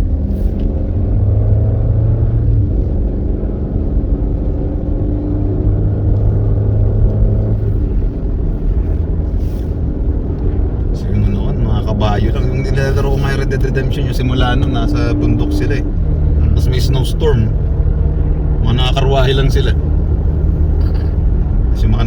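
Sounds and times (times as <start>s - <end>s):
engine and tyre noise inside car: 0.0s - 22.0s.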